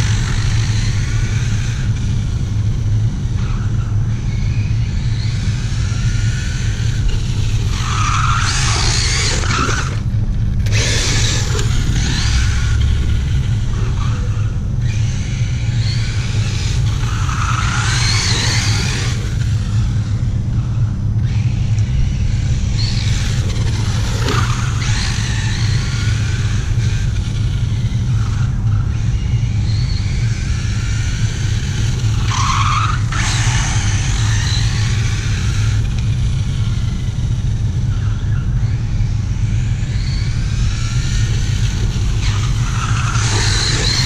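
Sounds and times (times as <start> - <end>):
electric motor whine: 0.0 - 44.0
low rumble: 0.0 - 44.0.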